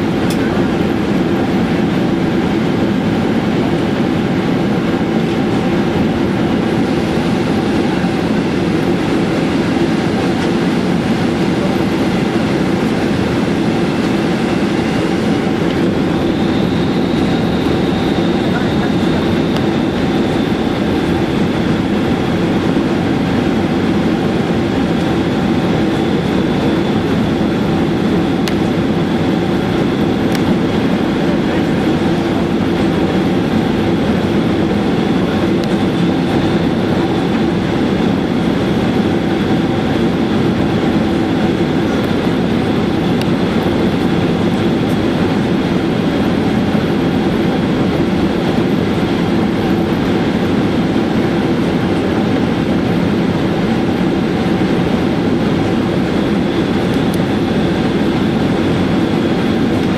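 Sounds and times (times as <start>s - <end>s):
airplane cabin engine noise: 0.0s - 59.9s
steady high whine: 0.0s - 59.9s.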